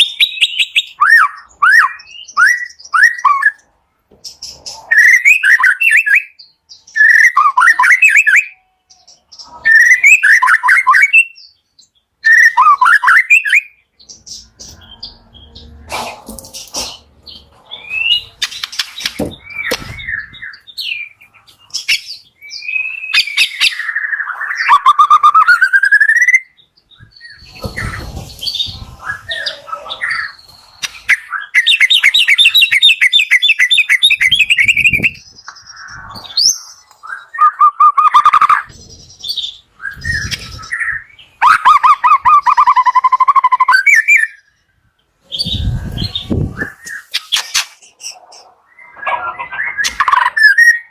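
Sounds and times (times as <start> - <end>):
songbird singing whistles and trills: 0.0 - 3.7, 4.5 - 15.8, 17.2 - 50.9.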